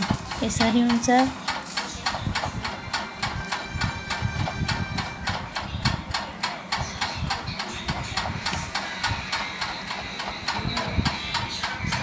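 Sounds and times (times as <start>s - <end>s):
rapid machine clicking: 0.0s - 12.0s.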